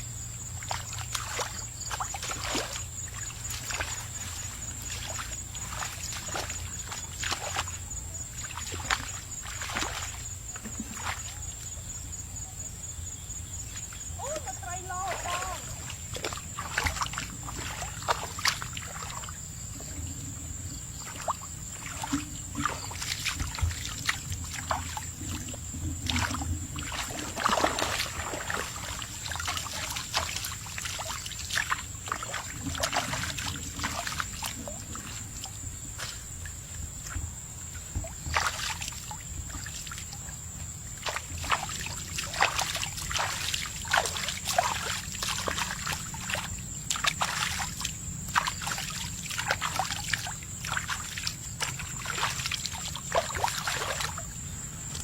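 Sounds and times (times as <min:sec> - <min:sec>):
muddy water splashing: 0:00.0 - 0:12.8, 0:13.4 - 0:55.0.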